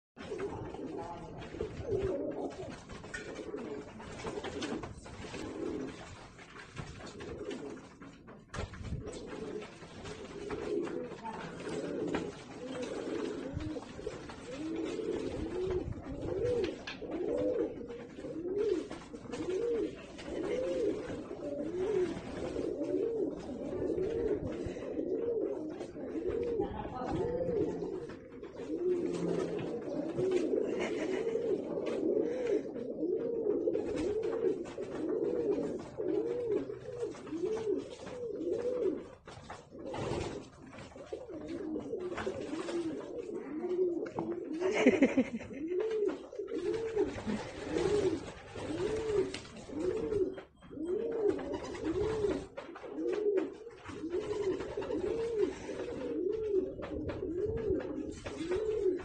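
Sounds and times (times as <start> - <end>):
bird cooing: 0.2 - 6.0, 9.0 - 59.0.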